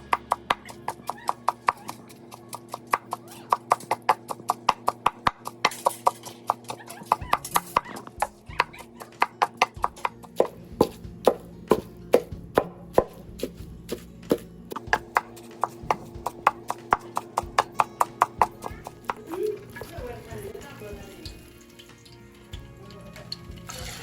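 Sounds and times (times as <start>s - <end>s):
knife chopping on cutting board: 0.1s - 5.9s, 6.5s - 20.0s.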